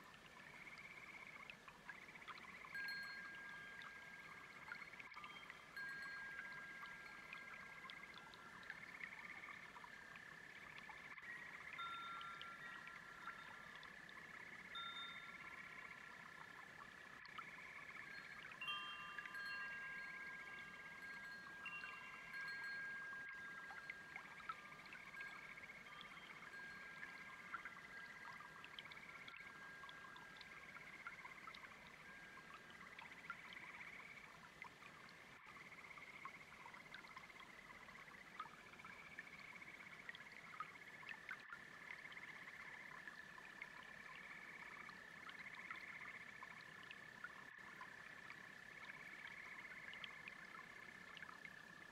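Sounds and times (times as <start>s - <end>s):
babbling brook: 0.0s - 51.9s
frogs and toads trilling: 0.0s - 51.9s.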